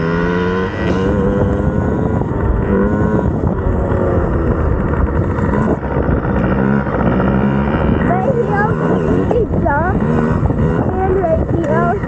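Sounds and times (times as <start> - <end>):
dirt bike engines running: 0.0 - 12.0
wind rumbling on microphone: 0.0 - 12.0.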